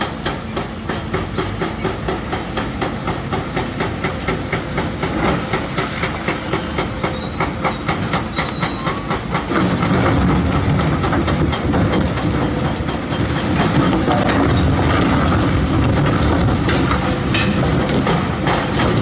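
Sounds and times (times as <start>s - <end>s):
diesel engine under load: 0.0s - 19.0s
excavator metallic clanking: 0.0s - 19.0s.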